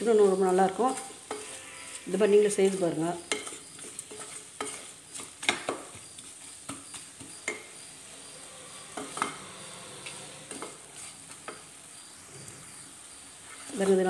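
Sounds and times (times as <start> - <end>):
spatula scraping pot sides: 0.0 - 12.8
sizzle of frying in oil: 0.0 - 14.0.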